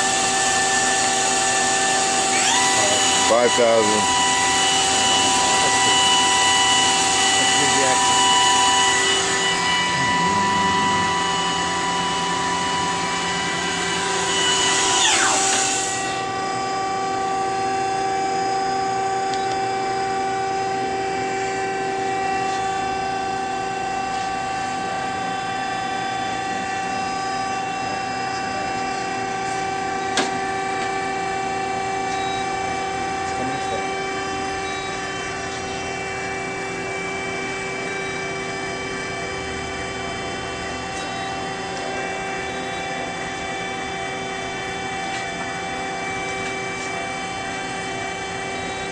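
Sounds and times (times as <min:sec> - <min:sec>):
machine spindle whine: 0:00.0 - 0:48.9.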